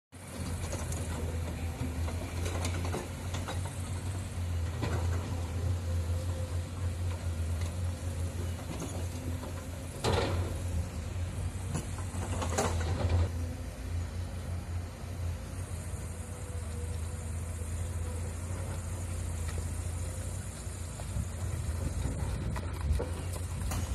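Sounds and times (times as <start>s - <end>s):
excavator diesel engine hum: 0.2s - 23.9s.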